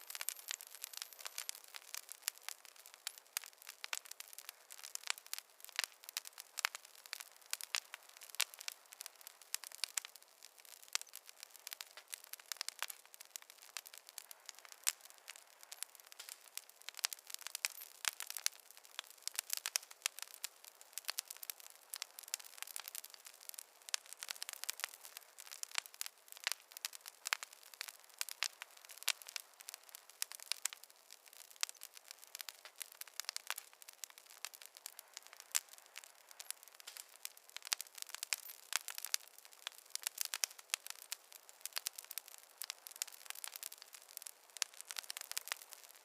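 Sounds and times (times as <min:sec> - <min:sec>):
fireplace fire crackling: 0:00.0 - 0:46.0
soft fire hiss: 0:00.0 - 0:46.0.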